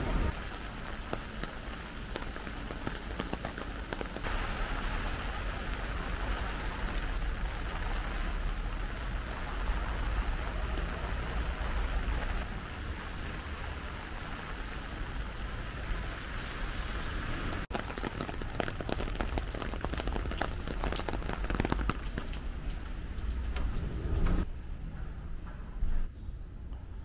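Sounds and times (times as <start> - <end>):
rain on wet pavement: 0.0 - 24.5.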